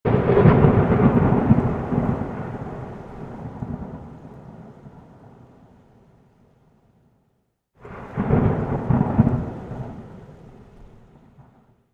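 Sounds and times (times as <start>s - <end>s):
thunder rumbling: 0.1s - 6.2s, 7.8s - 11.9s.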